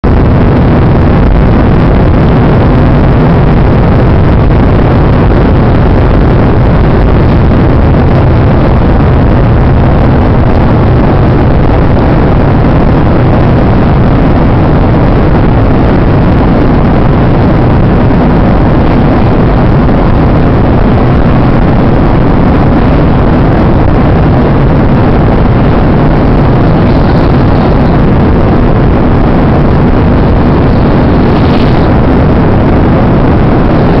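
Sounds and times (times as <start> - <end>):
airplane engine drone: 0.0 - 34.0
low hum: 0.0 - 34.0.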